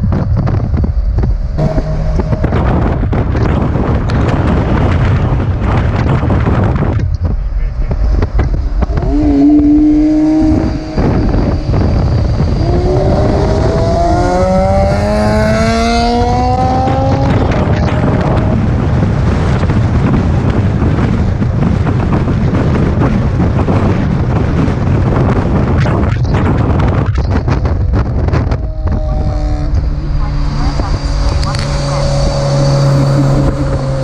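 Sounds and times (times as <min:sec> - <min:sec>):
car engine accelerating: 0:00.0 - 0:22.4, 0:26.7 - 0:34.0
road and wind noise: 0:00.0 - 0:34.0.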